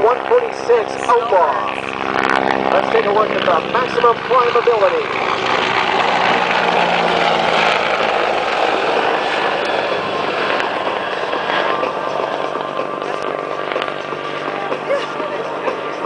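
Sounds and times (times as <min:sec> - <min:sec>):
helicopter rotor and engine noise: 0:00.0 - 0:16.0.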